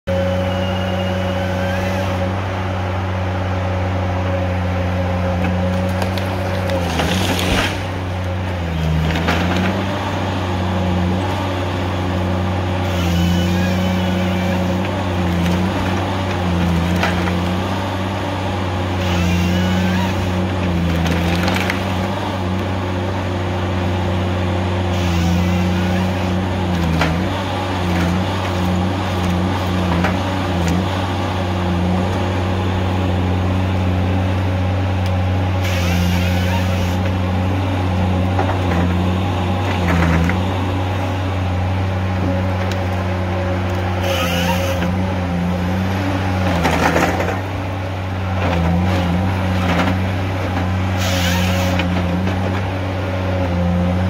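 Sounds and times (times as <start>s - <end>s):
diesel engine under hydraulic load: 0.1s - 54.0s.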